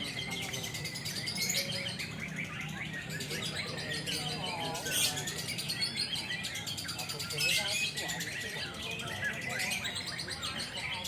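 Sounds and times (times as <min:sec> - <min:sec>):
bird chirping and chattering: 0:00.0 - 0:11.0.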